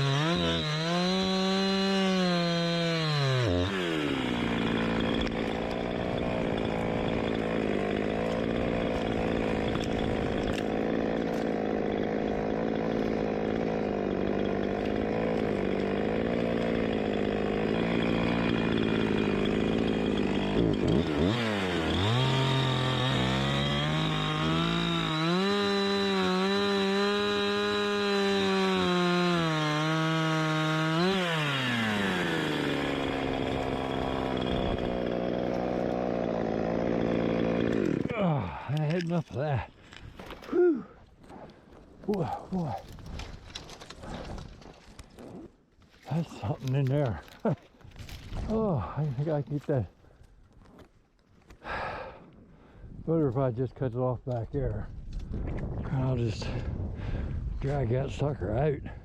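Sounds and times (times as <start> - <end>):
chainsaw cutting wood: 0.0 - 40.6, 41.2 - 48.6.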